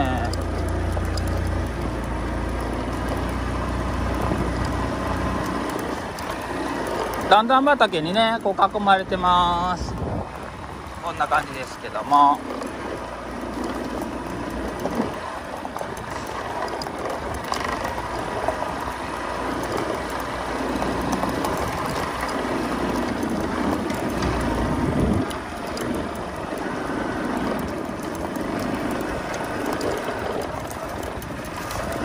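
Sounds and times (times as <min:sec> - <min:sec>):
small motorcycle engine running: 0:00.0 - 0:32.0.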